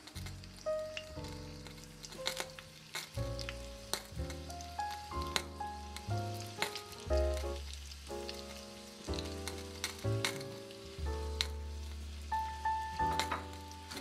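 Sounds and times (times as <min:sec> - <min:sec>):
background music held notes: 0:00.0 - 0:14.0
oil crackling and popping: 0:00.0 - 0:14.0
spring rolls frying in oil: 0:00.0 - 0:14.0.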